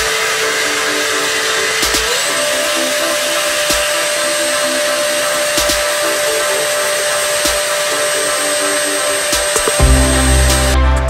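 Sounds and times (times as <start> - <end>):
cordless vacuum motor whine: 0.0 - 9.8.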